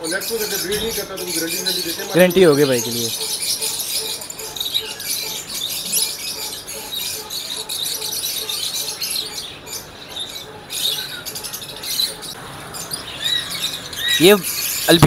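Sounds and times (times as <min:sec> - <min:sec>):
birds chirping and chattering: 0:00.0 - 0:15.0.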